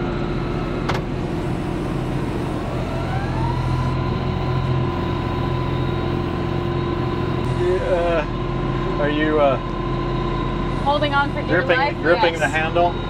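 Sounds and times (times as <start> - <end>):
rising whine: 0.0 - 13.0
tractor diesel engine running: 0.0 - 13.0.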